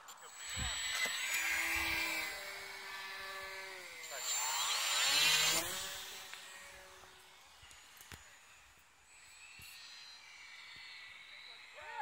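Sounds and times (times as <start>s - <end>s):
model plane motor whining: 0.0s - 12.0s.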